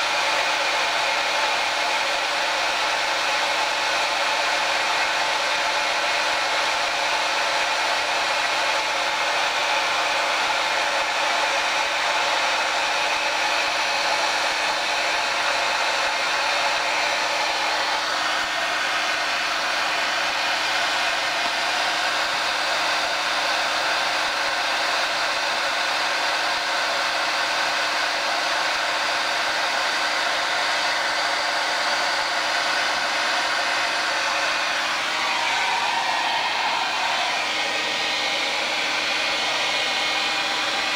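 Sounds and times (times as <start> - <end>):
hot-air tool blowing: 0.0 - 40.9.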